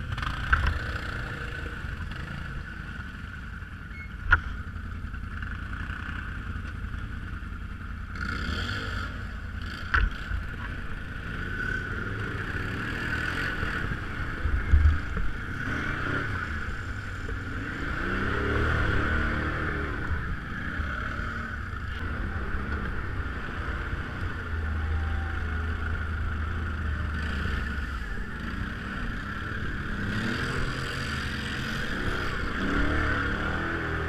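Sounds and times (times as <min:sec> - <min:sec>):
off-road vehicle engine running: 0:00.0 - 0:34.0.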